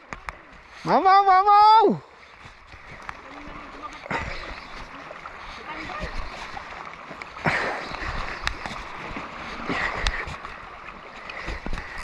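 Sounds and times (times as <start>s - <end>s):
seawater splashing: 0.0s - 12.0s.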